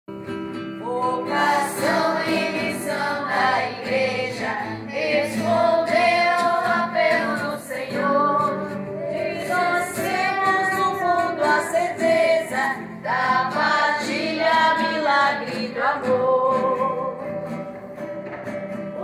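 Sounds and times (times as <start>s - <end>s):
children and women singing: 0.8s - 17.6s.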